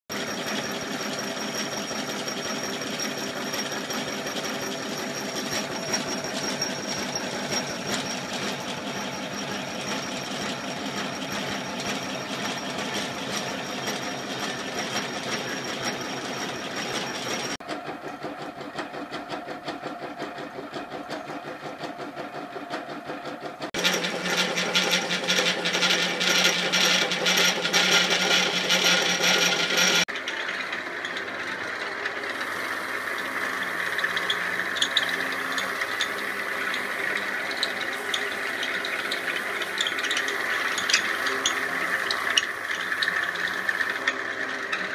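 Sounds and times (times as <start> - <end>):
drill bit boring into wood: 0.1 - 17.6, 23.8 - 31.3, 32.0 - 44.9
wood lathe running: 0.1 - 44.9.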